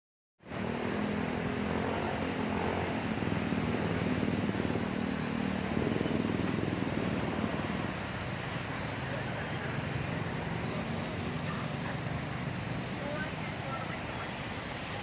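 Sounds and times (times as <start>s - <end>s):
continuous rushing noise: 0.4s - 15.0s
vehicle engine running: 1.4s - 15.0s.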